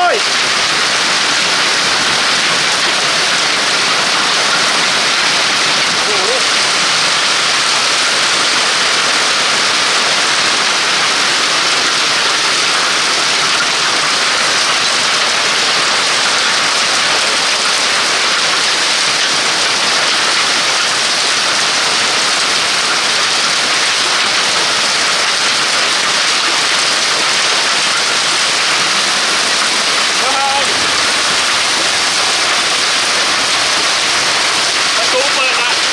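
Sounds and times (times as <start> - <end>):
hail and heavy rain on wood: 0.0 - 35.9.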